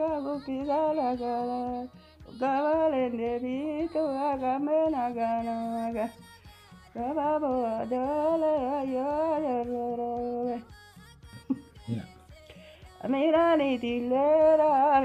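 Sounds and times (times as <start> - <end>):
person singing slow melody: 0.0 - 15.0.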